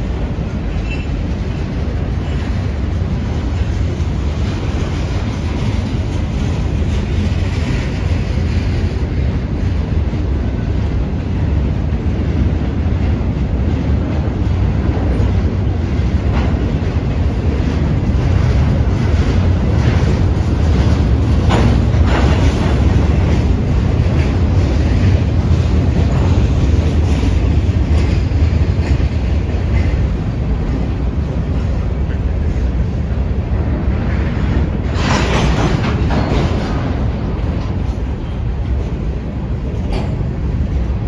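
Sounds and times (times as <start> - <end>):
clickety-clack over rail joints: 0.0 - 41.0
steel wheels rumbling on rail: 0.0 - 41.0.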